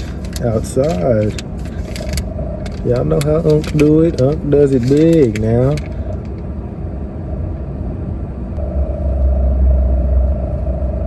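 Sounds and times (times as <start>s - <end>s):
car rumble from inside: 0.0s - 11.0s
steady hum: 0.0s - 11.0s.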